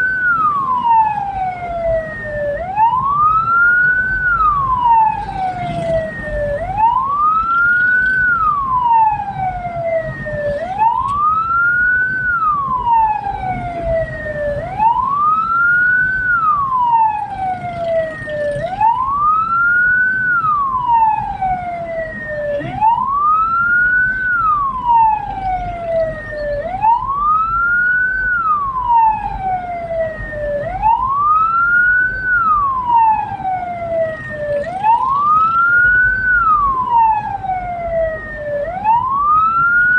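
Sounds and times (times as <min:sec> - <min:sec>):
siren wailing: 0:00.0 - 0:39.9
vehicle rumbling on road: 0:00.0 - 0:39.9.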